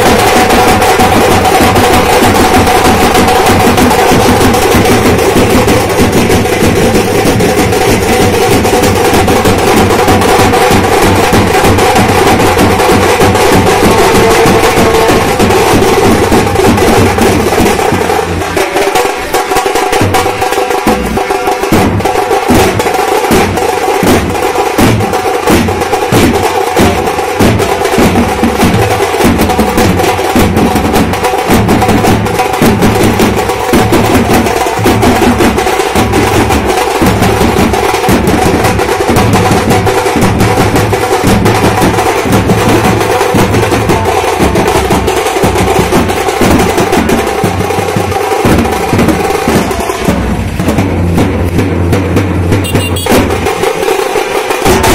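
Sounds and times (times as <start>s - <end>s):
drum band playing fast beat: 0.0s - 54.9s.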